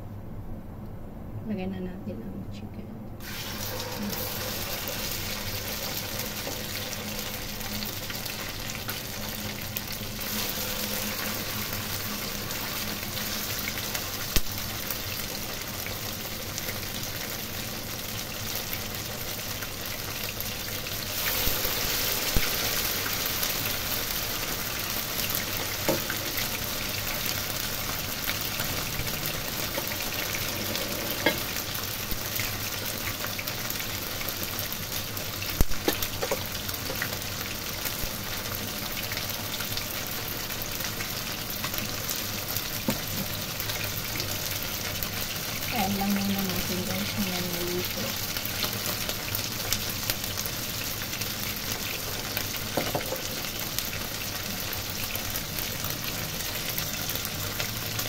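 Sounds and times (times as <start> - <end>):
chicken sizzling in hot oil: 3.2 - 58.0.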